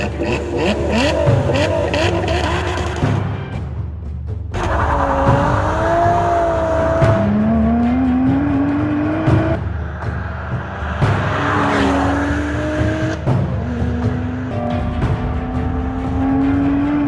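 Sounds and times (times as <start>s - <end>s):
car engine revving under load: 0.0s - 3.2s, 4.5s - 17.0s
background music: 0.0s - 17.0s.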